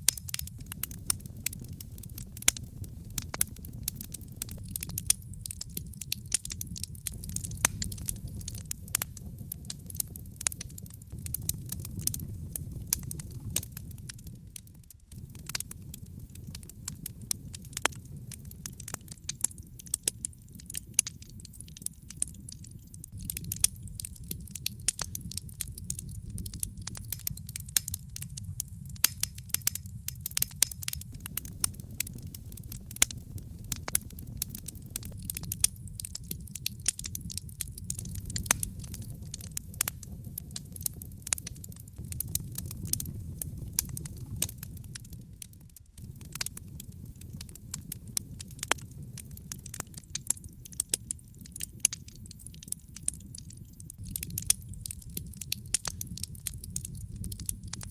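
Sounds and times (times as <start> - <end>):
fire crackling and popping: 0.0 - 57.9
low fire rumble: 0.0 - 57.9.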